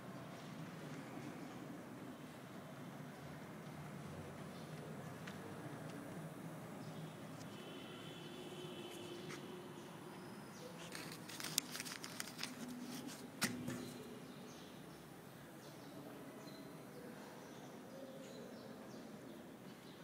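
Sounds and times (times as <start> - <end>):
faint hall ambience: 0.0 - 20.0.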